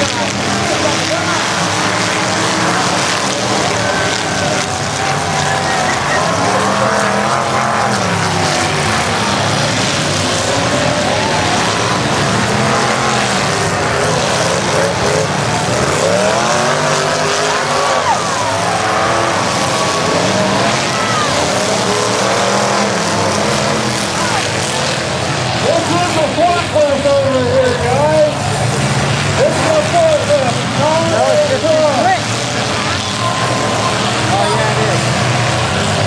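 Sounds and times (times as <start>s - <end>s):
constant din: 0.0s - 36.0s
truck engines revving: 0.0s - 36.0s.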